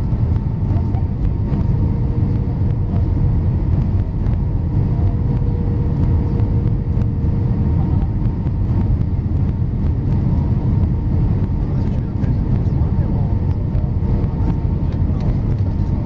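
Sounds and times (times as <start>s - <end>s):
aircraft engine and airflow rumble: 0.0s - 16.0s.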